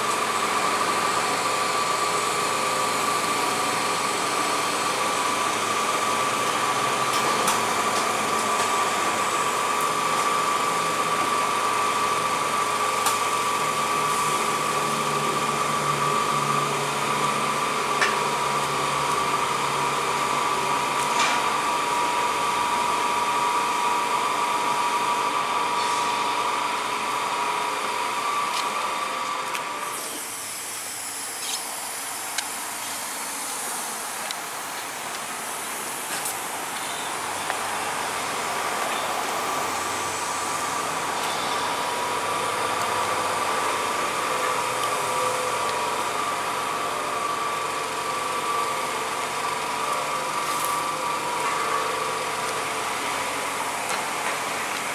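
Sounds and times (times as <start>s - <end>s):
car wash dryer blowers whining: 0.0s - 54.9s.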